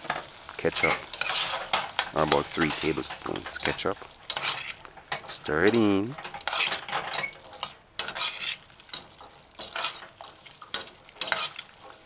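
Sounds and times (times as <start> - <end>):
metal spoon scraping pot: 0.7 - 11.7.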